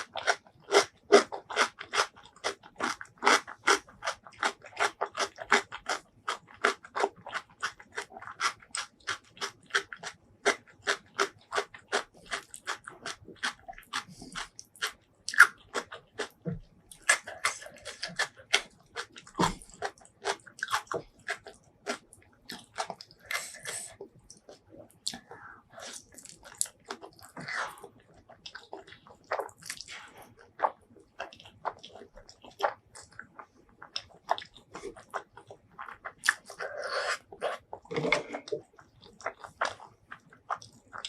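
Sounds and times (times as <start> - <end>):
crunchy chewing: 0.0 - 41.0.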